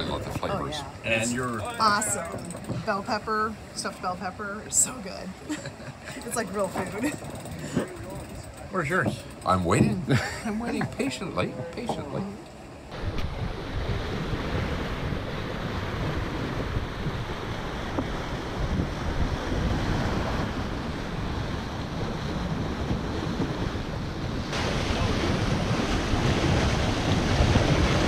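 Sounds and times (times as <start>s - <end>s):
water rushing along a hull: 0.0s - 28.0s
wind buffeting microphone: 0.0s - 28.0s.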